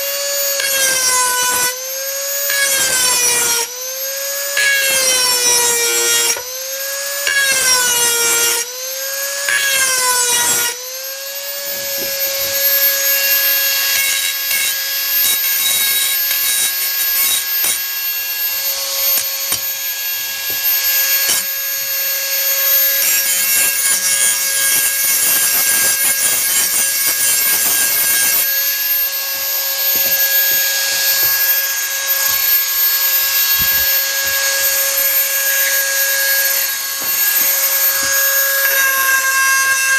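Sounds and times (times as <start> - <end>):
rotary tool whining: 0.0 - 39.9.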